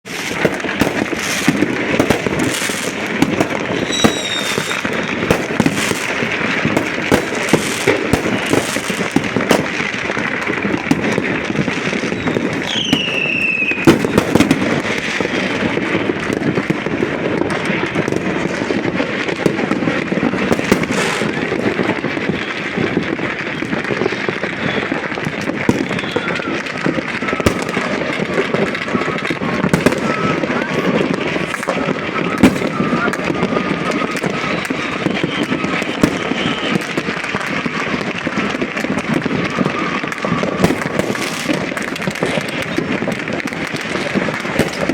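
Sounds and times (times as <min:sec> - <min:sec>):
firecrackers crackling and banging: 0:00.0 - 0:44.9
falling firework whistles: 0:00.1 - 0:15.8, 0:20.5 - 0:44.9.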